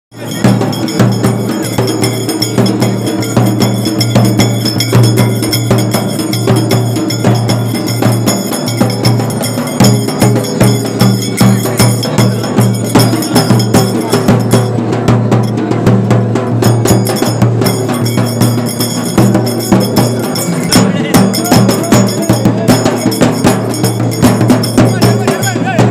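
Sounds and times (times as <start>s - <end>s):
steel drums beaten fast: 0.1s - 25.9s.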